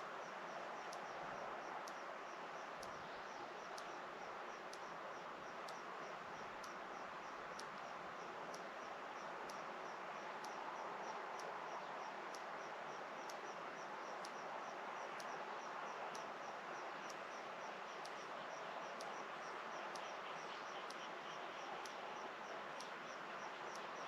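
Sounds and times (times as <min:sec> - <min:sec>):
faint tick: 0:00.0 - 0:24.0.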